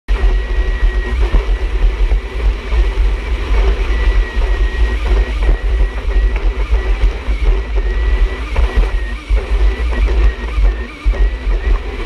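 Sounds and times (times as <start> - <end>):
jet ski engine running: 0.1 - 12.0.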